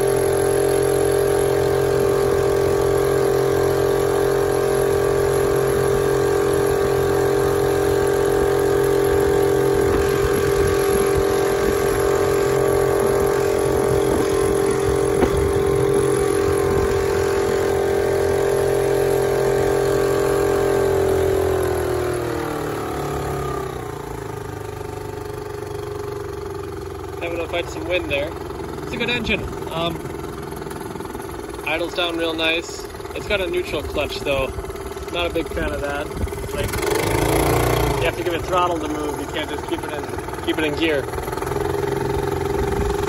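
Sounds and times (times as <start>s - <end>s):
outboard motor running: 0.0s - 43.0s.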